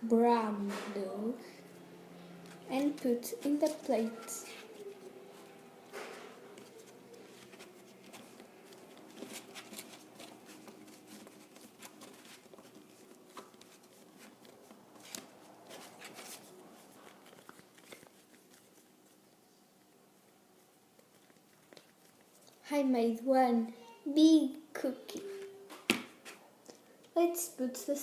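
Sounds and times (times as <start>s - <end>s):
hands shaping dough on a plate: 0.0s - 22.7s.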